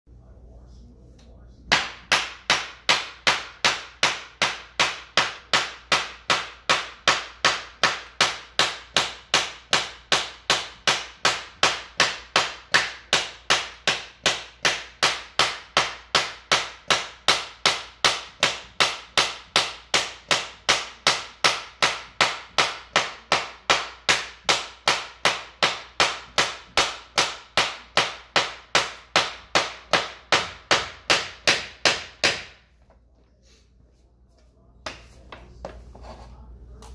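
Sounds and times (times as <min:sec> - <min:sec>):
hammer tapping: 0:01.7 - 0:32.7, 0:34.8 - 0:36.1.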